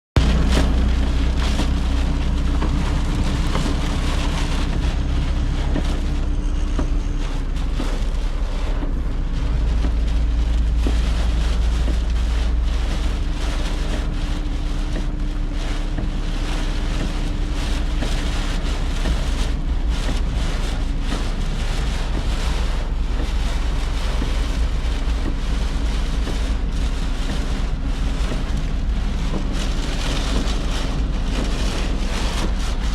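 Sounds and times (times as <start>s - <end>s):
steady rain hissing: 0.2s - 32.9s
wind rumbling: 0.2s - 32.9s.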